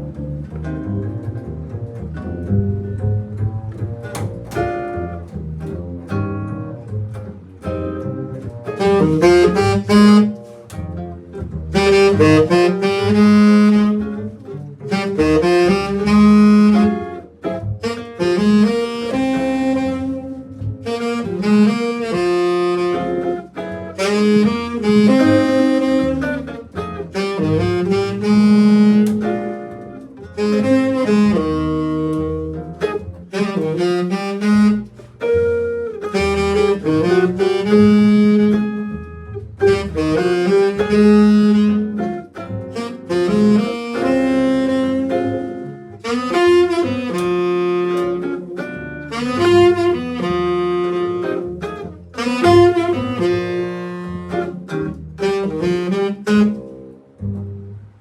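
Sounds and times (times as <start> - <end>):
bass line: 0.0 - 58.0
wind instrument melody: 8.7 - 10.8, 11.7 - 57.0.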